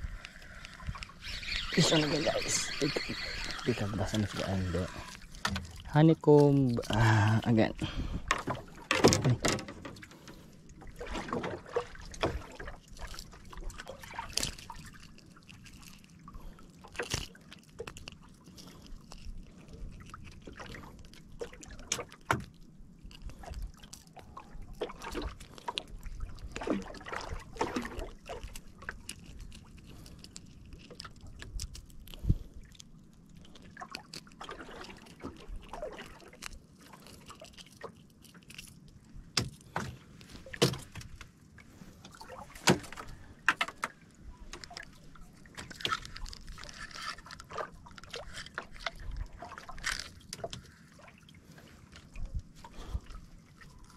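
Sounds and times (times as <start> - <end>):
water lapping against boat hull: 0.0 - 53.9.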